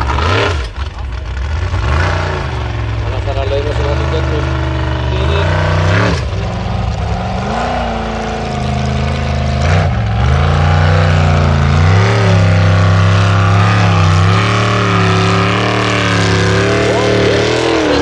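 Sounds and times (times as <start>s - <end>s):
buggy engine revving: 0.0s - 18.0s
tyres spinning on gravel: 0.0s - 18.0s.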